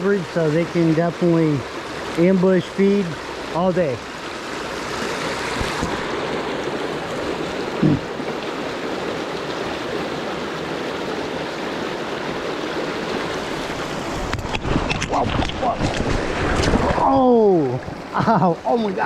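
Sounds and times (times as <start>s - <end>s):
river water babbling over rocks: 0.0s - 19.0s.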